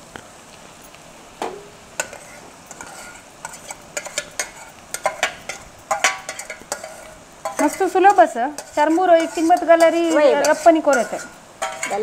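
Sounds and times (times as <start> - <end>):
metal spatula scraping a pan: 2.0 - 12.0.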